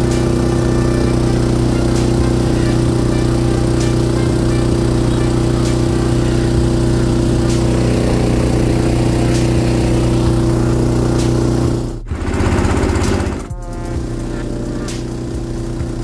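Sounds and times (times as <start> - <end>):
boat engine running: 0.0 - 16.0
different engine note: 0.0 - 16.0.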